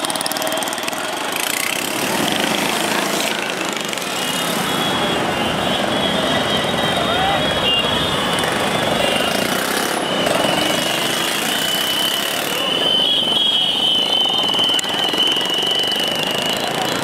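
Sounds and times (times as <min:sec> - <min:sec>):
dense motorcycle traffic: 0:00.0 - 0:17.0.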